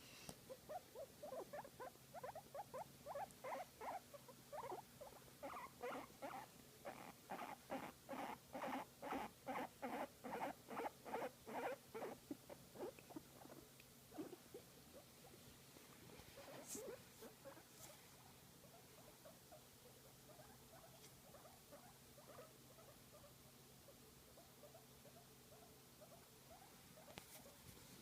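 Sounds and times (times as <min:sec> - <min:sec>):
guinea pig squeaking: 0:00.5 - 0:15.4, 0:16.4 - 0:17.8, 0:18.6 - 0:23.4, 0:24.3 - 0:27.6.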